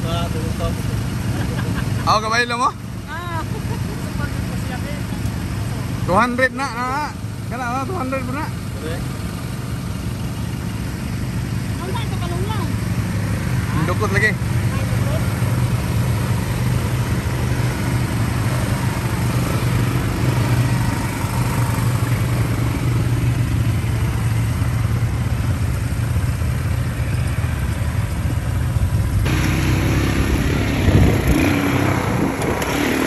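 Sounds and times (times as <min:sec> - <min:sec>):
quad bike engine running: 0:00.0 - 0:33.0.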